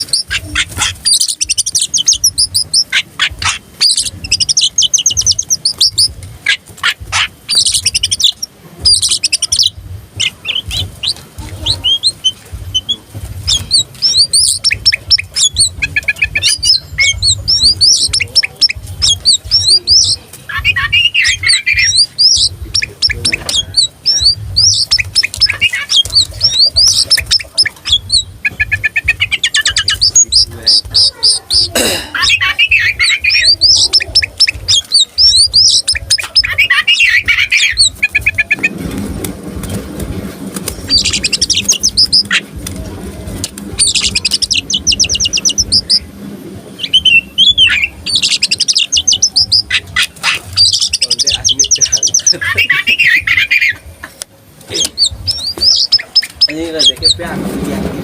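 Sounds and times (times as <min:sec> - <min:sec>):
bird singing whistles and trills: 0:00.0 - 0:38.8, 0:40.7 - 0:42.5, 0:43.8 - 0:46.1, 0:46.8 - 0:53.8, 0:54.7 - 0:57.3.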